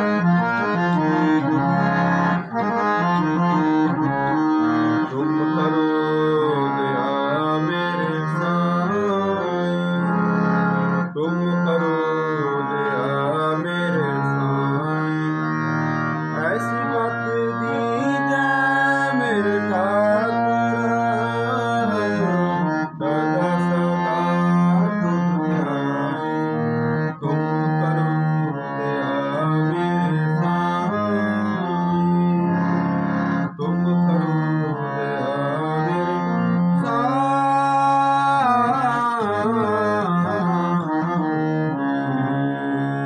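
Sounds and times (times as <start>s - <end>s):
harmonium melody: 0.0s - 43.0s
man singing a hymn: 5.0s - 10.2s, 11.1s - 15.6s, 16.3s - 32.6s, 33.5s - 43.0s.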